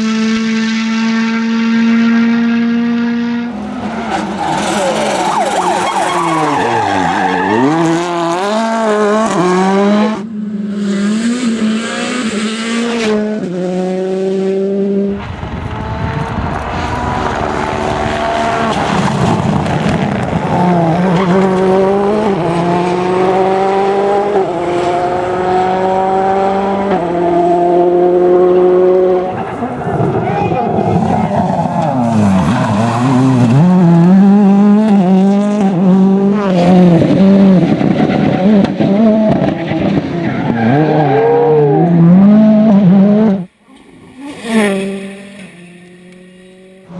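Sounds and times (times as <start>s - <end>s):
car accelerating through upshifts: 0.0s - 46.9s
rally car engines: 0.0s - 46.9s.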